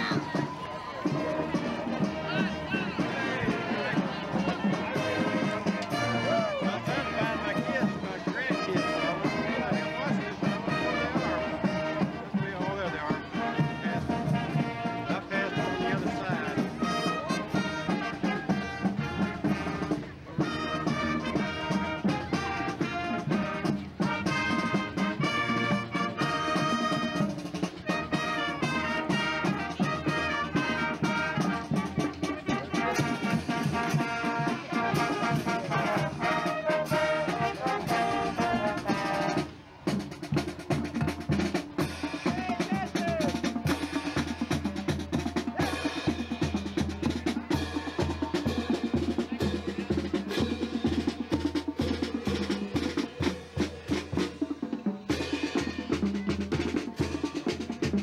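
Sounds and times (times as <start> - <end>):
marching band brass: 0.0 - 58.0
snare drums: 0.0 - 58.0.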